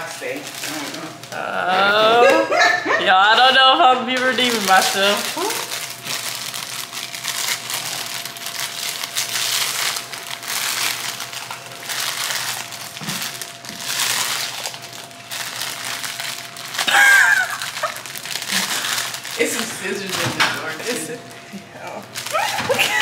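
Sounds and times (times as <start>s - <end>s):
plastic bag crinkling: 0.0s - 2.3s, 3.2s - 23.0s.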